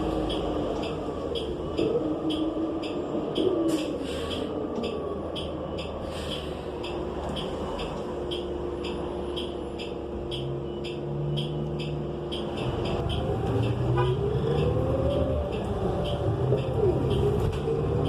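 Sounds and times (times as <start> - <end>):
bus engine running: 0.0 - 18.0
sharp ticking: 0.0 - 18.0.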